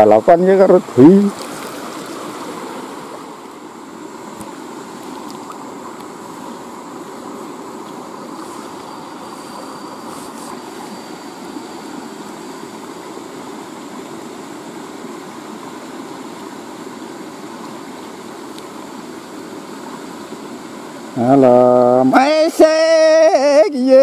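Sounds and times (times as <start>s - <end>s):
river flowing over rocks: 0.0s - 24.0s.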